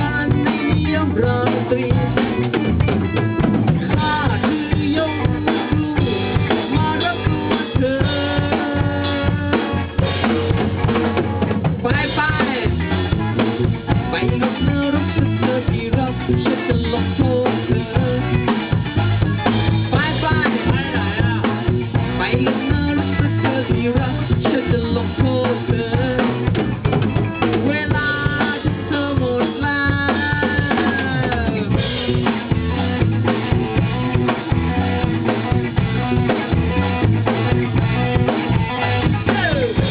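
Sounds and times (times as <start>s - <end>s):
bass line: 0.0s - 39.9s
drum kit steady beat: 0.0s - 39.9s.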